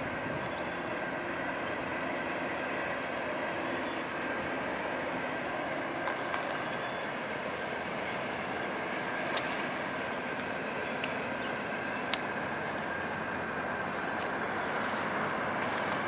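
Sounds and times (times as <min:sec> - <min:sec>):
freight train running: 0:00.0 - 0:16.0.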